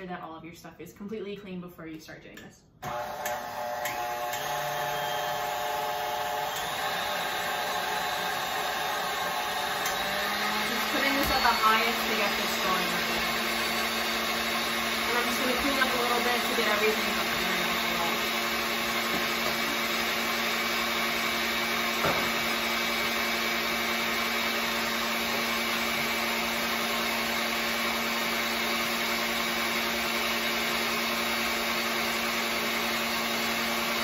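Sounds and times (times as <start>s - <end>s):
stand mixer whipping: 2.8s - 34.0s.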